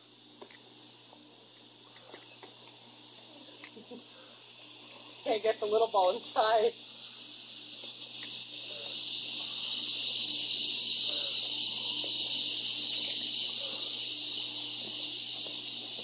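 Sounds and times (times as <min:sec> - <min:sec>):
high-pitched insect chorus buzzing: 0:00.0 - 0:16.0.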